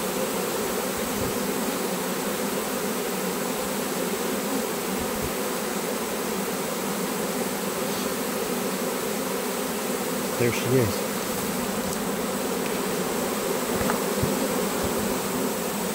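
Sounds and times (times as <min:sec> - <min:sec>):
bee swarm buzzing: 0:00.0 - 0:15.9.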